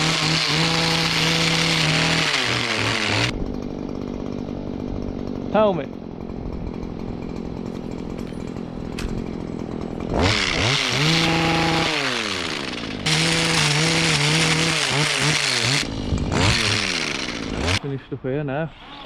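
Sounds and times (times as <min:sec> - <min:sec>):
hedge trimmer idling and revving: 0:00.0 - 0:18.0.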